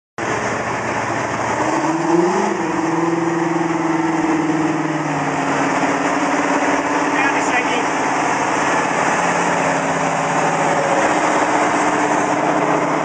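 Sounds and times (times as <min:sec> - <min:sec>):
tractor engine running: 0:00.2 - 0:01.7, 0:03.7 - 0:13.0.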